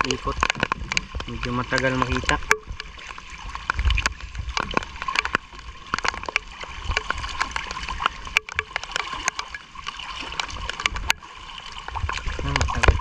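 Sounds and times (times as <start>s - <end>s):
rain falling on water and wood: 0.0s - 13.0s
water sloshing against hull: 0.0s - 13.0s.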